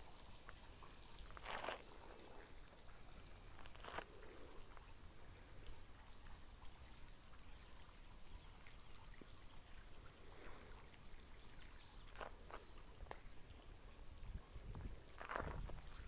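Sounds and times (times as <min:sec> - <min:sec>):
fountain water trickling: 0:00.0 - 0:16.0.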